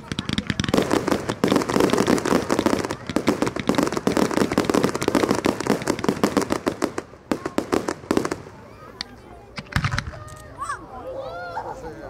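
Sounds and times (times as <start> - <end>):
fireworks bangs and crackles: 0.0 - 10.3.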